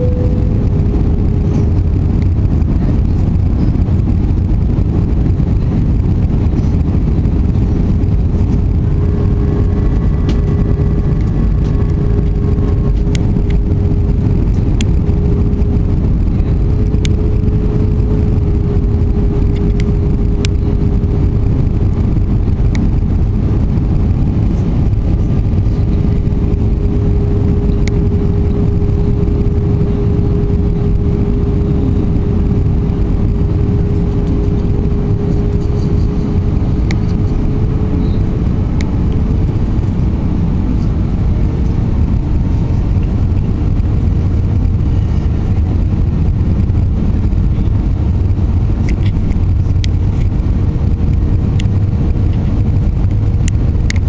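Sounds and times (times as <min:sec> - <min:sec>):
droning hum: 0:00.0 - 0:54.0
jet engine and airflow rumble: 0:00.0 - 0:54.0.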